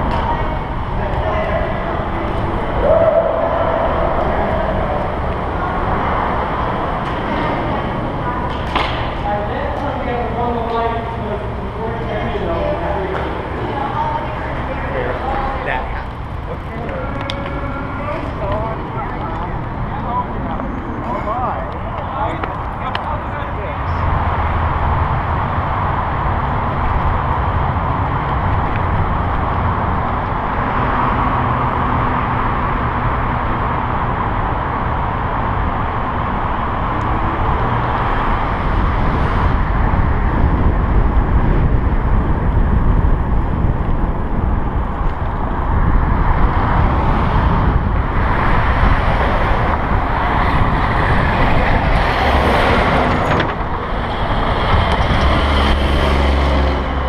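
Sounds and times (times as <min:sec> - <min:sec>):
cars and trucks driving past: 0:00.0 - 0:57.0
wind rushing over microphone: 0:00.0 - 0:57.0.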